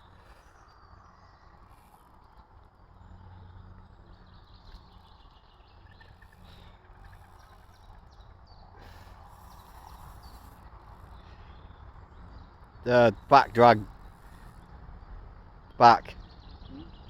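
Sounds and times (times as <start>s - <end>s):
faint bird chirps: 0.0s - 15.2s, 16.1s - 17.0s
low outdoor rumble: 0.0s - 17.0s.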